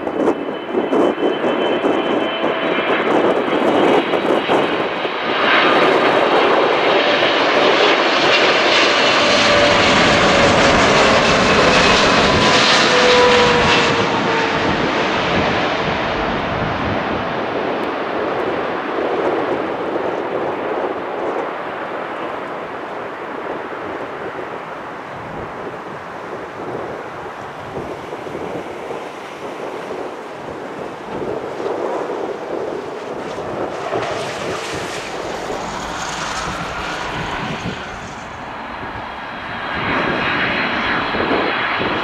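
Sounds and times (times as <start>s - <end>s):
jet plane passing overhead: 0.0s - 42.0s.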